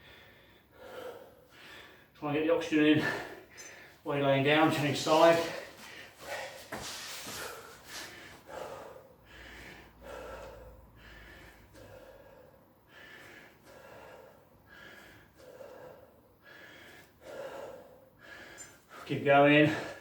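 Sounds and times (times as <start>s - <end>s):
person breathing hard: 0.0s - 2.2s, 3.0s - 4.0s, 5.2s - 20.0s.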